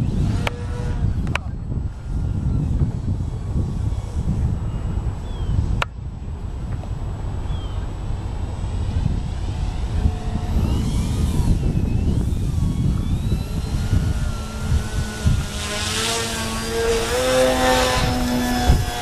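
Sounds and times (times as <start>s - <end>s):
model airplane engine whining: 0.0s - 19.0s
wind buffeting microphone: 0.0s - 19.0s.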